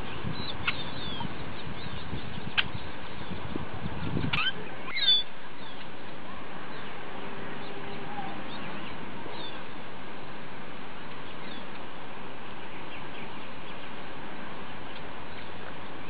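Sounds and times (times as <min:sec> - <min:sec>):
birds chirping: 0:00.0 - 0:09.9, 0:11.0 - 0:16.0
steady outdoor hiss: 0:00.0 - 0:16.0.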